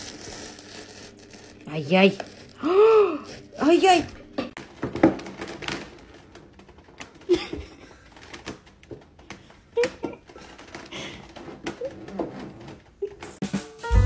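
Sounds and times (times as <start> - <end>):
plastic container crackling: 0.0 - 12.9.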